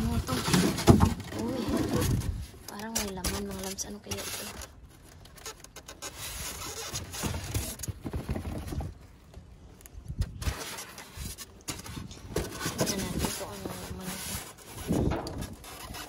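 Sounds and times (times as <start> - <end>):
cardboard boxes and bags scraped: 0.0 - 9.2, 10.2 - 16.0.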